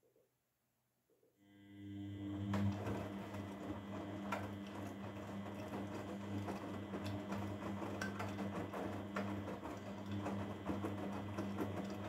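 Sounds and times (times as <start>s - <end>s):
washing machine motor humming: 1.4s - 12.0s.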